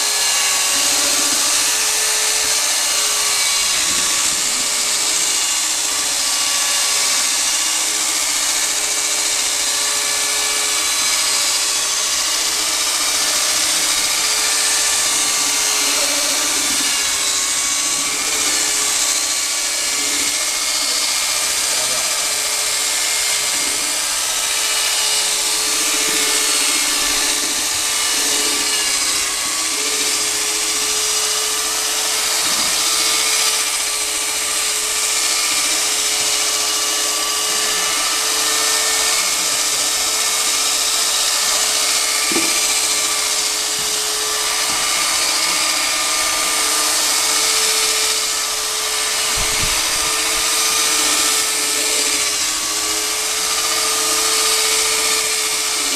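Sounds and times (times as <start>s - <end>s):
motor whine: 0.0s - 55.9s
paddle mixer churning plaster: 0.0s - 55.9s.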